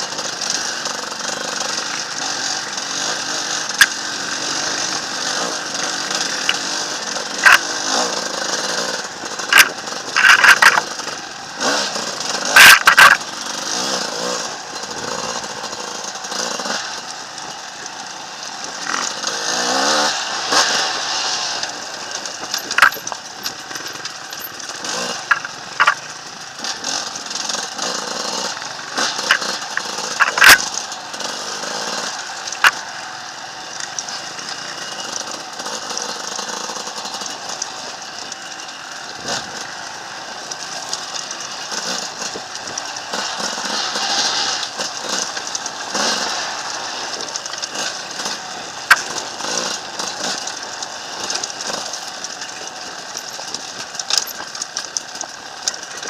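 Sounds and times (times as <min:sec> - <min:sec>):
dirt bike engine revving: 0:00.0 - 0:56.0
rocks and branches hitting bike: 0:05.0 - 0:15.8, 0:16.4 - 0:32.9, 0:33.8 - 0:56.0.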